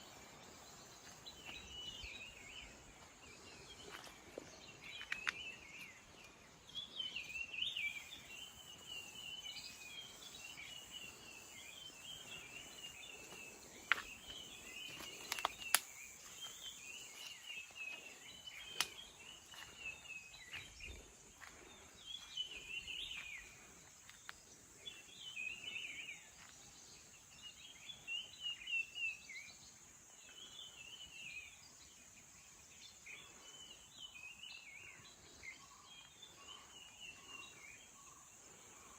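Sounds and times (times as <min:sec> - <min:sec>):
birds singing: 0:00.0 - 0:38.9.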